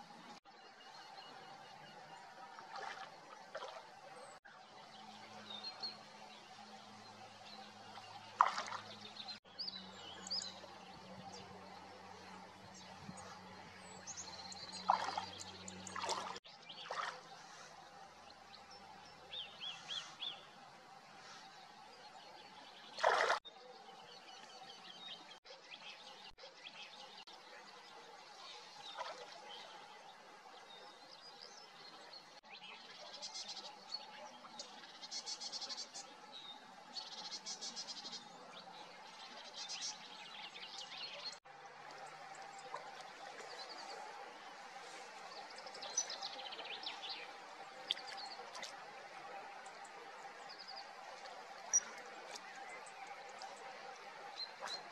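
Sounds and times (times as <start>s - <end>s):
small birds chirping: 0.0s - 20.6s, 21.2s - 54.9s.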